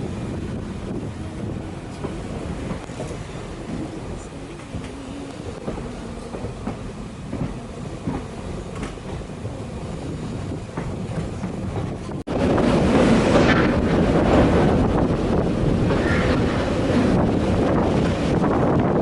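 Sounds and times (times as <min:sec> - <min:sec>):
train wheels clattering on rails: 0:00.0 - 0:19.0
wind blowing on microphone: 0:00.0 - 0:19.0.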